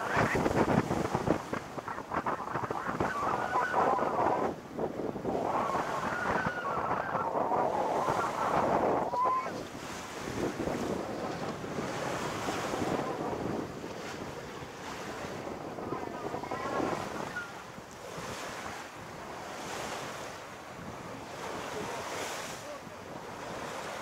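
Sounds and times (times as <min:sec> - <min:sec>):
water rushing past hull: 0:00.0 - 0:24.0
wind buffeting microphone: 0:00.0 - 0:24.0.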